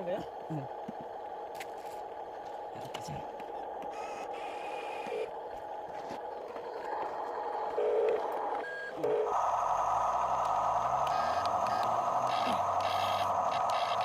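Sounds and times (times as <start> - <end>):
toy electric motors whining: 0.0 - 14.0.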